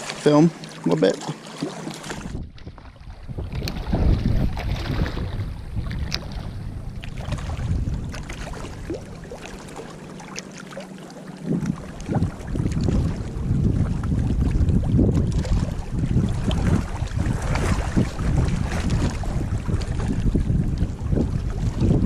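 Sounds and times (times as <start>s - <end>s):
wind buffeting microphone: 2.0s - 10.4s, 11.4s - 22.0s.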